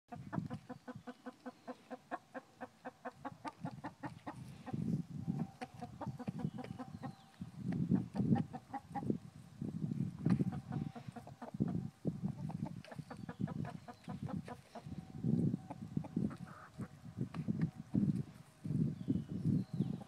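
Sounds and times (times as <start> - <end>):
hens clucking: 0.1 - 9.2, 10.2 - 18.4.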